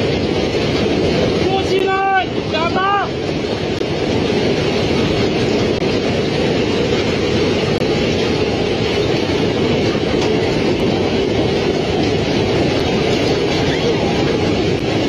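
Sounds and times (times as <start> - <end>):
gale-force wind: 0.0 - 15.0
hailstones hammering down: 0.0 - 15.0.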